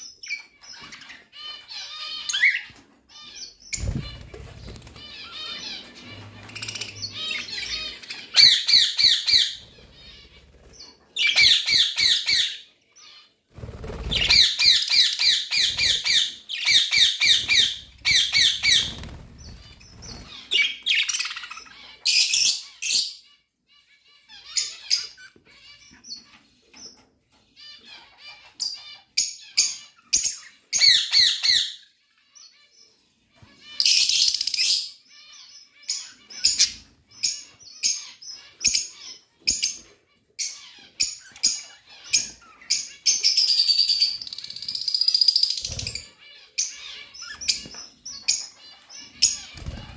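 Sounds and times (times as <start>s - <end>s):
budgerigars chirping: 0.0s - 49.9s.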